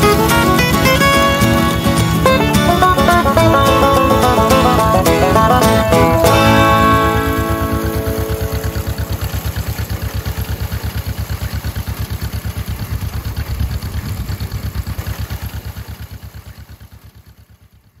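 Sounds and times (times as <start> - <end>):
old tractor engine running: 0.0 - 18.0.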